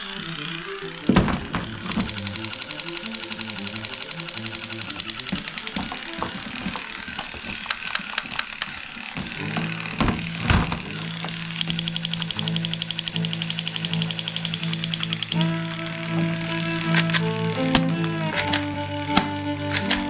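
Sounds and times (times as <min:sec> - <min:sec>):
plastic toy guns clicking: 0:01.1 - 0:20.0.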